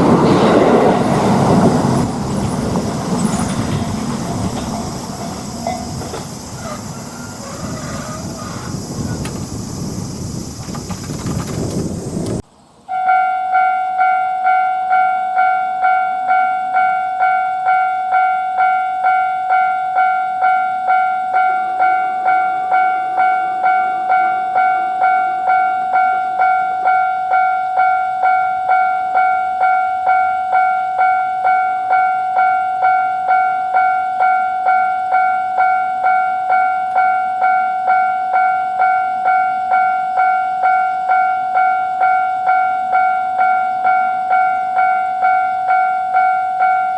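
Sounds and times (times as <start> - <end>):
level crossing warning bell: 0.0 - 9.2, 12.9 - 46.9.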